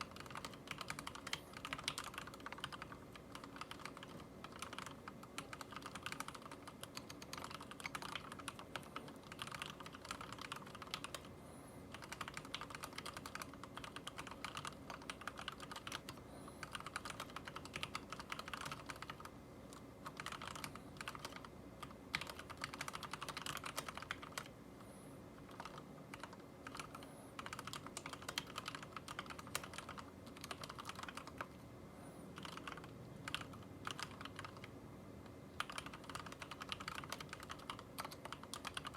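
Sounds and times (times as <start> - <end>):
mechanical keyboard typing: 0.0 - 11.3, 11.9 - 24.5, 25.4 - 31.6, 32.3 - 38.9.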